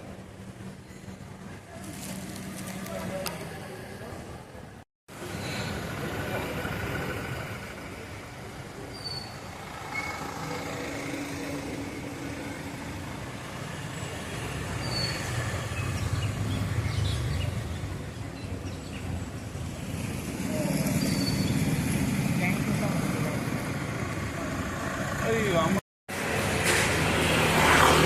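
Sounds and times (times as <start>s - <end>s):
passing vehicles: 0.0s - 28.0s.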